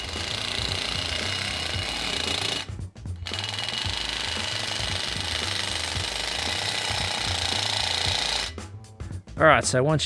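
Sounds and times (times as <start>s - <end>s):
impact driver hammering: 0.0s - 8.6s.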